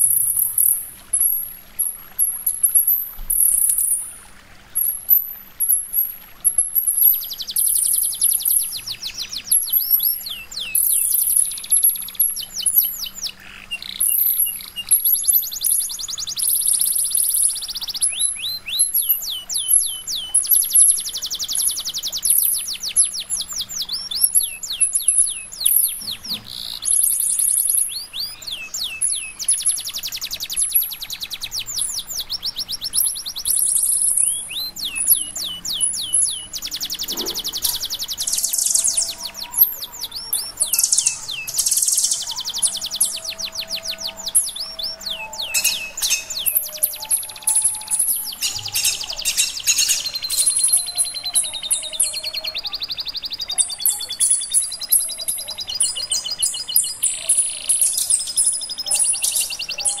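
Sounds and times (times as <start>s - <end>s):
songbird singing: 0.0s - 60.0s.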